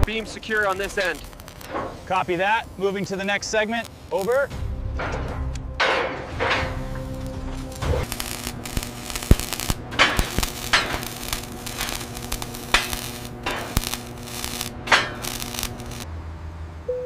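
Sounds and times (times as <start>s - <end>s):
arc welding crackling hiss: 0.0s - 4.6s, 6.4s - 16.1s
electric hum: 0.0s - 16.1s.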